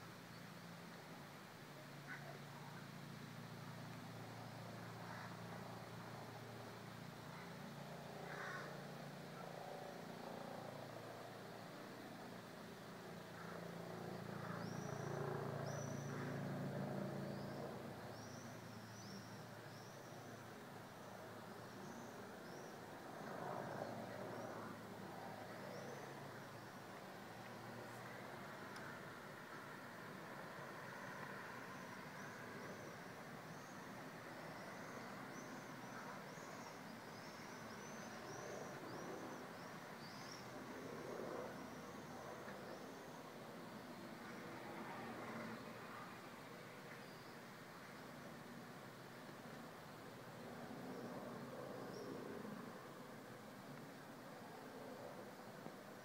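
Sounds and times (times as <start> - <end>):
faint steady background noise: 0.0 - 56.0.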